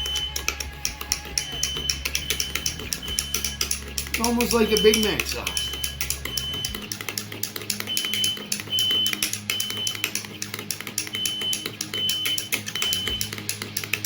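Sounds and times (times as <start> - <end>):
smoke alarm beeping: 0.0 - 6.9, 7.8 - 10.2, 11.0 - 13.3.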